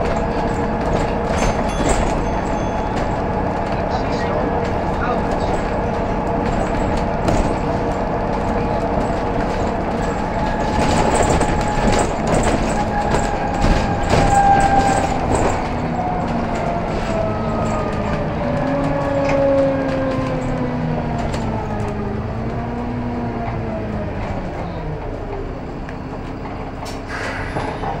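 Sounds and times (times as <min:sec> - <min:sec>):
bus drivetrain and road noise: 0:00.0 - 0:28.0
rattles and knocks from bus body: 0:00.0 - 0:28.0.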